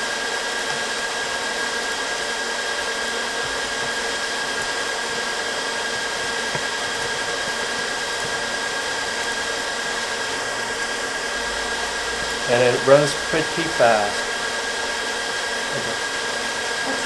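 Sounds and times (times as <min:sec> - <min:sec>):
cooling fans humming with whine: 0:00.0 - 0:17.0.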